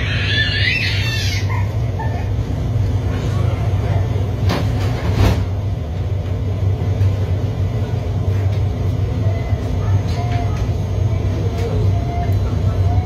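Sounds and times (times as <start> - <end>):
metro carriage rumble: 0.0 - 13.0.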